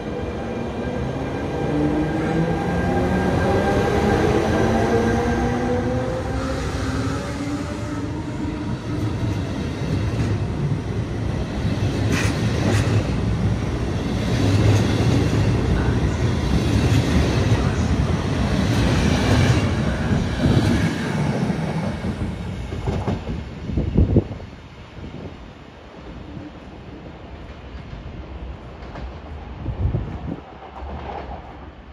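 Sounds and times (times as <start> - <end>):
electric train rolling past: 0.0 - 31.9.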